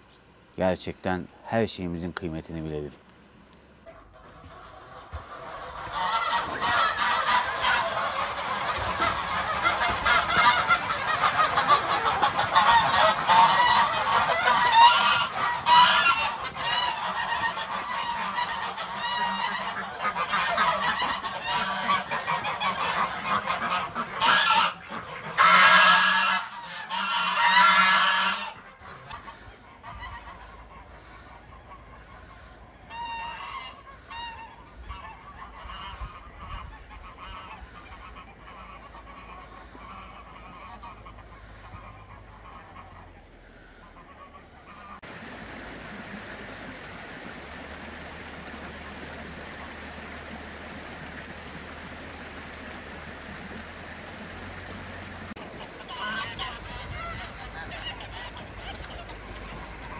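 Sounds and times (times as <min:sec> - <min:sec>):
geese honking: 0:03.7 - 0:59.9.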